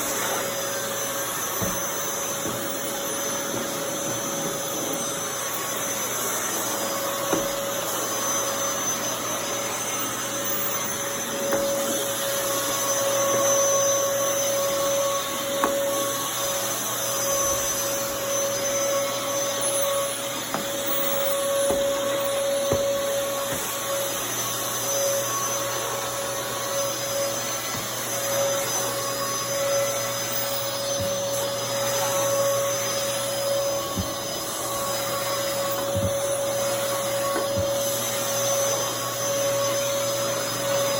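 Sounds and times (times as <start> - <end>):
vacuum cleaner whine: 0.0 - 40.9.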